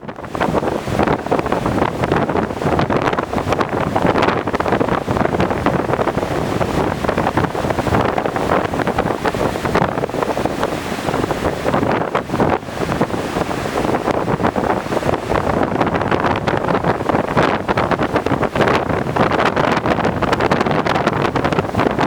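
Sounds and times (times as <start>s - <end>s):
heavy surf rushing: 0.0s - 22.0s
wind buffeting microphone: 0.0s - 22.0s.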